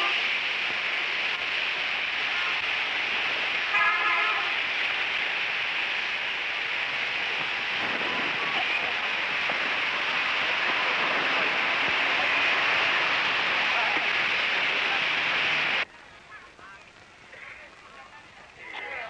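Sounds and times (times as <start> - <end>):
distant voices: 0.0 - 19.0
faint street noise: 0.0 - 19.0
heavy film hiss: 0.0 - 19.0.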